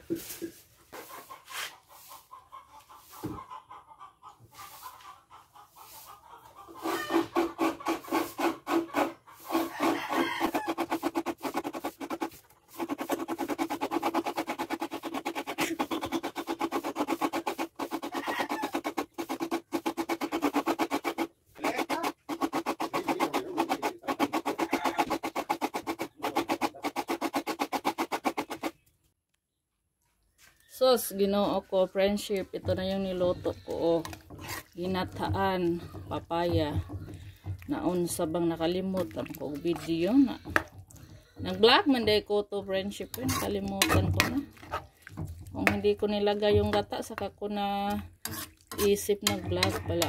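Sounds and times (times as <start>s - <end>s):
coconut being scraped: 5.7s - 28.9s, 32.1s - 50.0s.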